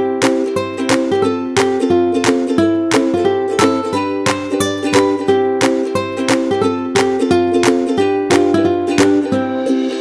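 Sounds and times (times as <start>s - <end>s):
light plucked-string tune: 0.0s - 10.0s.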